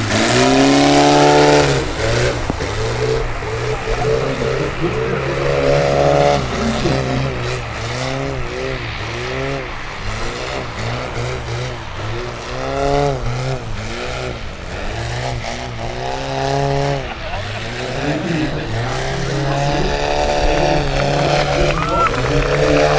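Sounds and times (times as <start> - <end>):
model airplane engine: 0.0 - 22.9.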